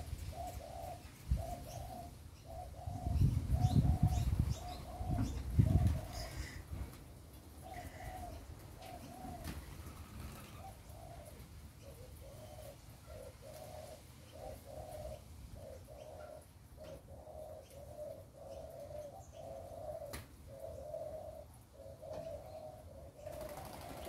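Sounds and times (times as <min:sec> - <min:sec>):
doves cooing: 0:00.0 - 0:24.0.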